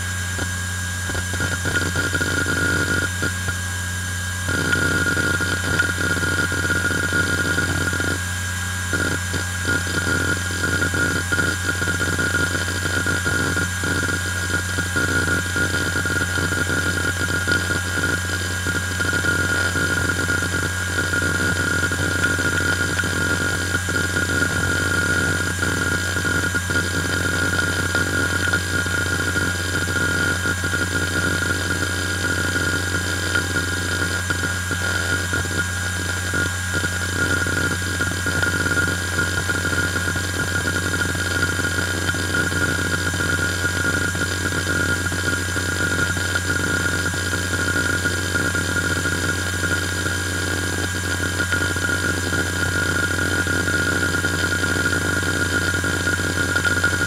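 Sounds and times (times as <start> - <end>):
hard drive seek chatter: 0.0 - 57.0
hard drive whine: 0.0 - 57.0.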